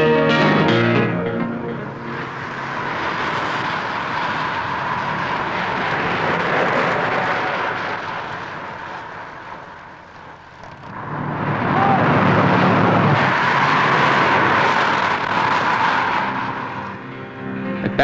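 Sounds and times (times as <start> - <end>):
racing bicycles passing by: 2.2 - 17.2.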